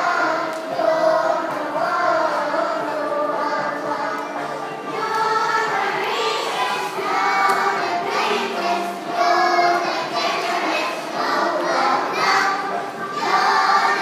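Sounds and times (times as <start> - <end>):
children singing: 0.0 - 14.0.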